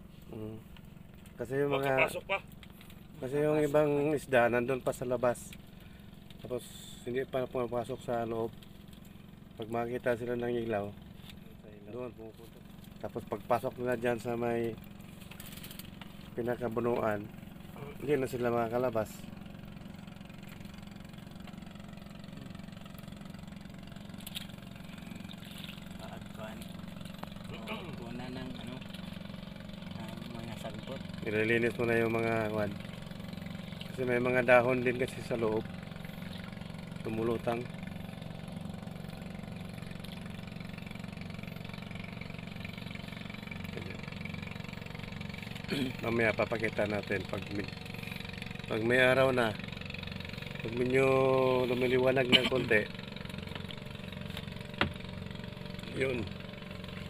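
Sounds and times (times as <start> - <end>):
small boat engine idling: 0.0 - 57.0.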